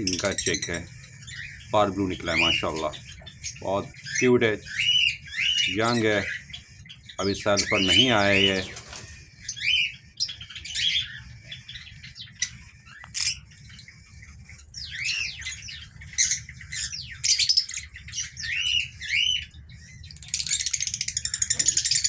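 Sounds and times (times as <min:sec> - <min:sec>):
lovebirds chirping and squawking: 0:00.0 - 0:22.0
lovebirds fast chattering: 0:00.0 - 0:22.0.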